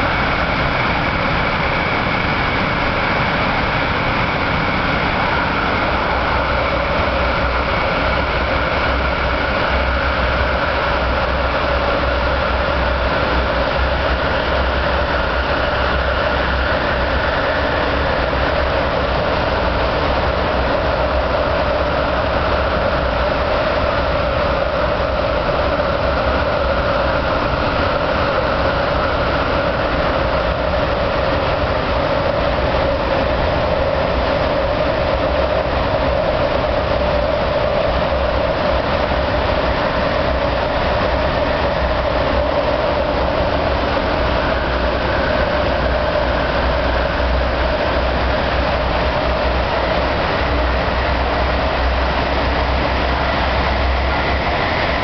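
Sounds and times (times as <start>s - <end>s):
train running noise: 0.0s - 55.0s.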